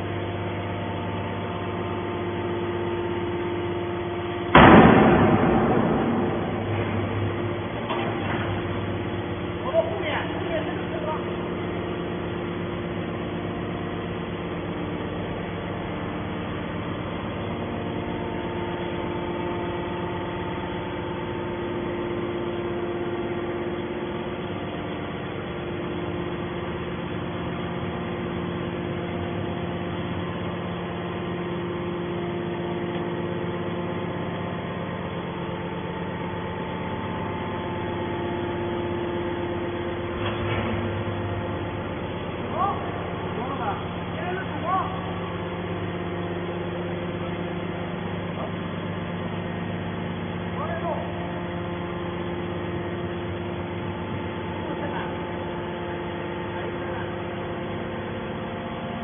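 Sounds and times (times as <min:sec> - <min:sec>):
hydraulic machine hum: 0:00.0 - 0:59.0.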